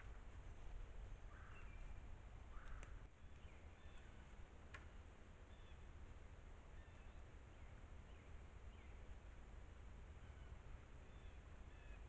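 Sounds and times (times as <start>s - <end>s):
distant birds chirping: 0.0s - 12.0s
low steady rumble: 0.0s - 12.0s.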